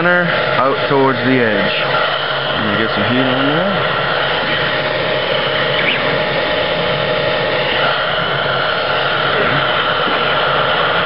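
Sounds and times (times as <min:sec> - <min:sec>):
hot-air blower running: 0:00.0 - 0:11.0.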